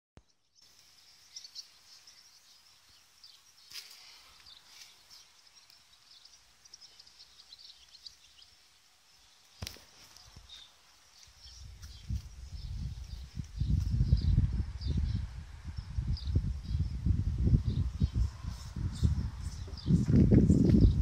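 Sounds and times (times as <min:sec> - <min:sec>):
faint birds chirping: 0:00.2 - 0:21.0.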